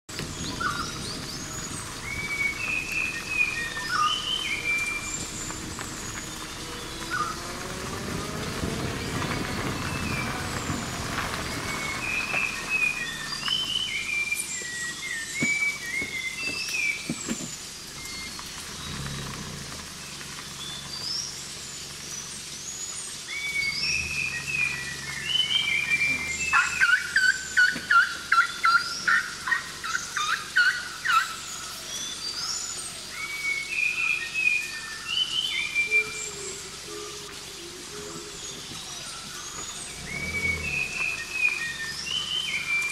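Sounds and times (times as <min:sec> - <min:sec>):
birds singing and chirping: 0:00.1 - 0:42.9.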